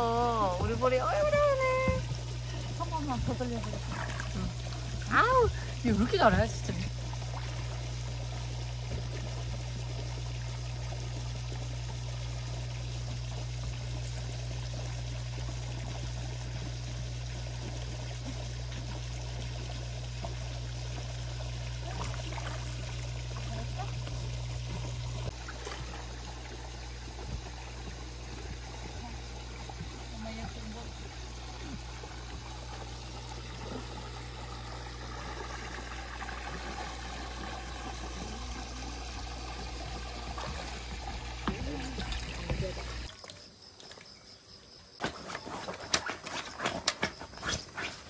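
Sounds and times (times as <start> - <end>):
low hum: 0.0 - 43.1
trickling water: 0.0 - 48.0.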